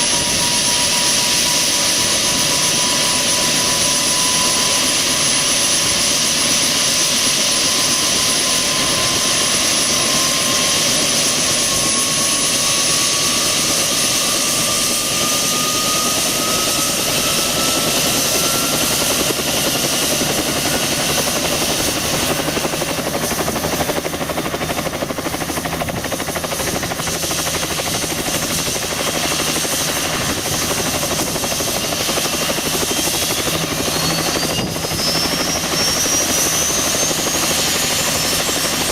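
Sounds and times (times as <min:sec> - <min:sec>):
helicopter rotor throb: 0:00.0 - 0:38.9
higher turbine whine: 0:00.0 - 0:38.9
turbine engine whine rising: 0:00.0 - 0:38.9.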